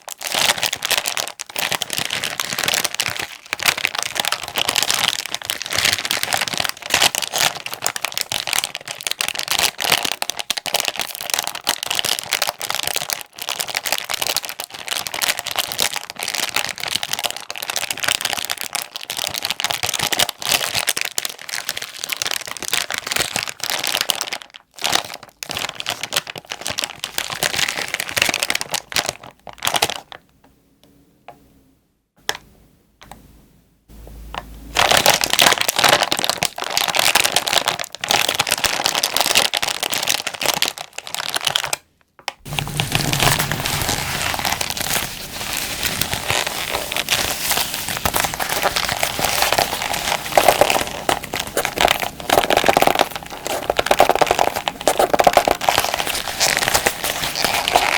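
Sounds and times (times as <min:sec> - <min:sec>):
plastic wrapper crinkling: 0:00.0 - 0:30.2, 0:34.8 - 0:57.9.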